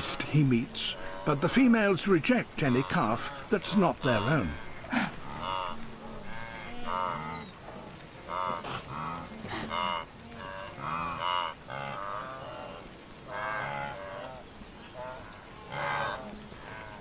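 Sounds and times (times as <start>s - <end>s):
wildebeest moaning calls: 0.0s - 17.0s.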